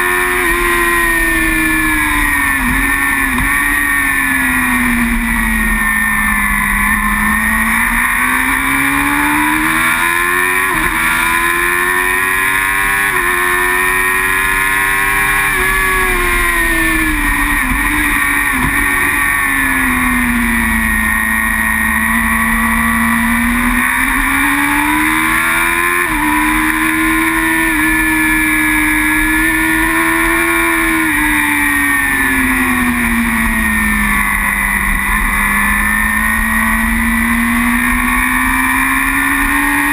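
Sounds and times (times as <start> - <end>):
superbike engine shifting gears: 0.0 - 39.9.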